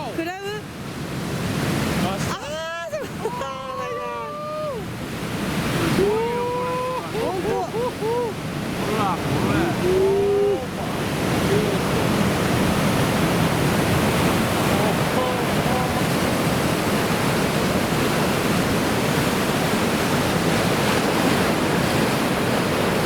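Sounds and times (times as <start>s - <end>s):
heavy surf breaking: 0.0s - 23.0s
wind on microphone: 4.2s - 23.0s.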